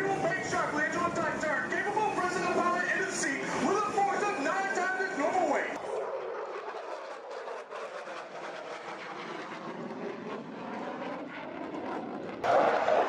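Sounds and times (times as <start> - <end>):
aircraft engine drone: 0.0 - 13.0.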